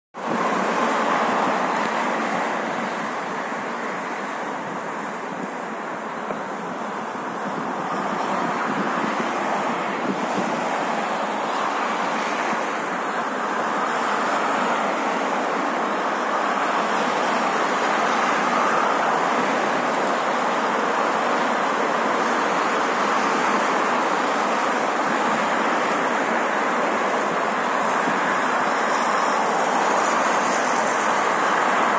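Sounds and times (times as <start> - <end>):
highway traffic tyre noise: 0.2 - 31.9.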